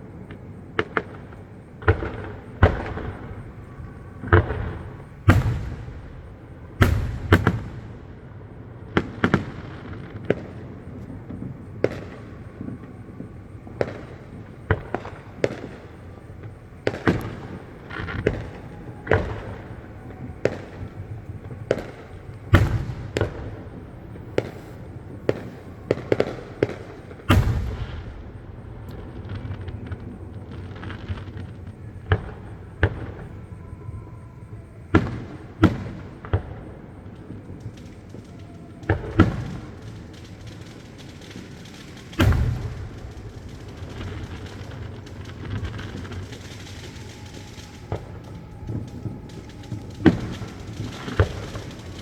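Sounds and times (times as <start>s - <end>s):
distant fireworks bangs and booms: 0.0s - 52.0s.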